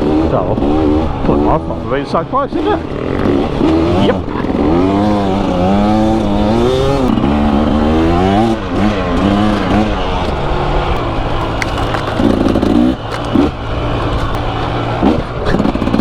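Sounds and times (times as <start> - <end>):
two-stroke motorbike engine revving: 0.0 - 16.0.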